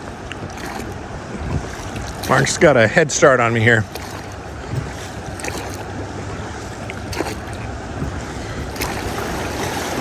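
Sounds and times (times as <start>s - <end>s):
river water rushing: 0.0s - 10.0s
wind buffeting microphone: 0.0s - 10.0s.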